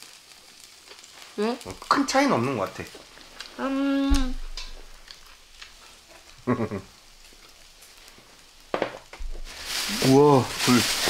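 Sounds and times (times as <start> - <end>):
food sizzling on grill: 0.0 - 11.0.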